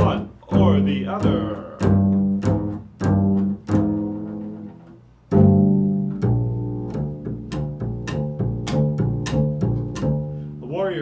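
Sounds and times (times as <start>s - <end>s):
low plucked string instrument: 0.0s - 11.0s.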